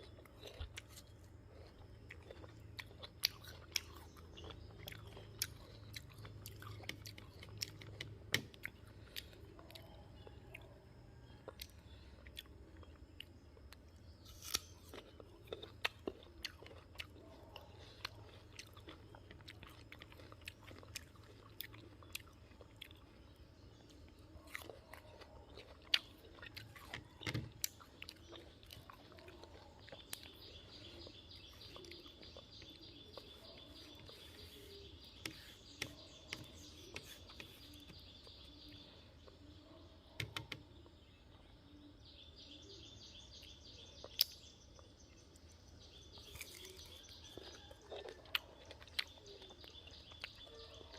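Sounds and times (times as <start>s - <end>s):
chewing crunchy fruit: 0.0s - 50.9s.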